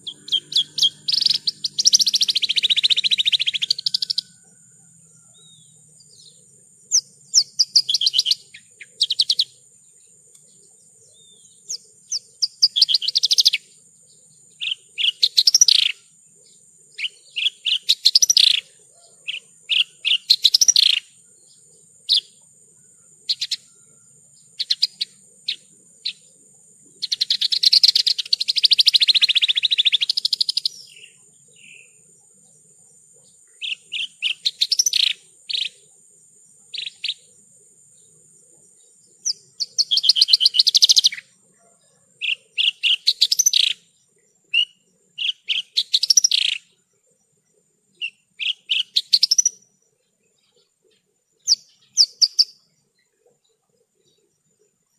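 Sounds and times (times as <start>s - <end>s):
lark singing chirps and trills: 0.0s - 54.9s.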